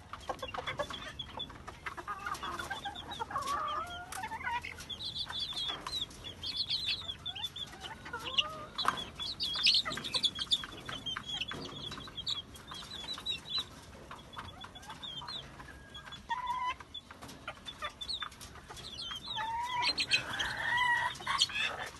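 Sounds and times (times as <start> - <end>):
chicks peeping: 0.0 - 21.9.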